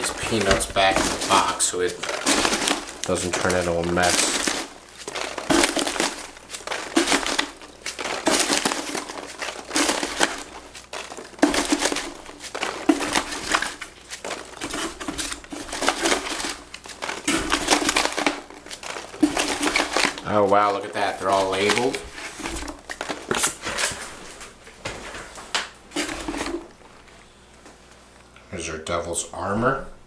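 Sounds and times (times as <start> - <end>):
rummaging through packing peanuts: 0.0 - 27.5.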